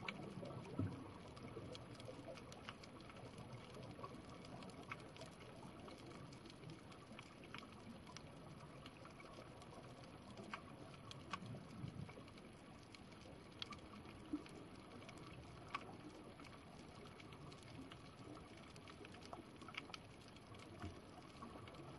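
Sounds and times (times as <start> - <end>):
low underwater rumble: 0.0 - 21.9.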